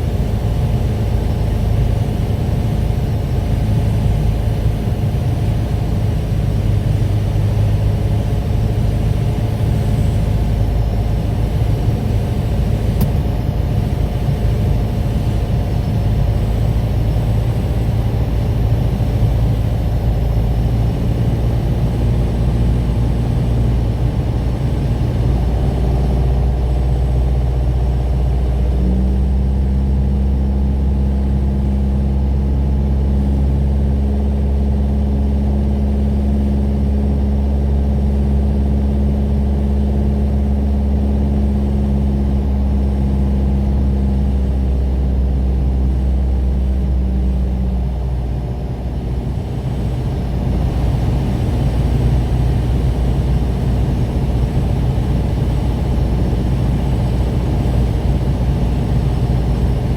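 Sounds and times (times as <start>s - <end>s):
propeller plane engine droning: 0.0s - 59.9s.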